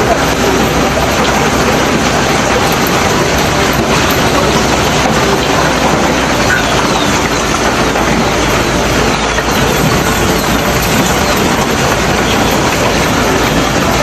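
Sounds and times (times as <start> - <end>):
heavy rain and hail: 0.0 - 14.0.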